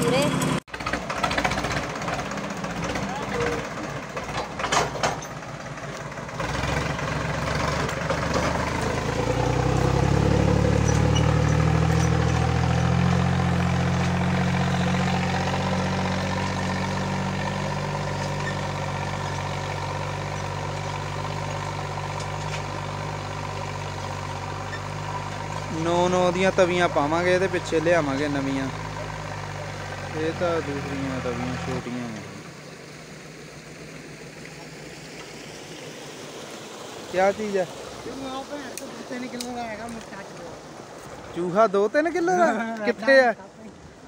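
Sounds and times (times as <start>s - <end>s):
tractor diesel engine: 0.0s - 44.0s.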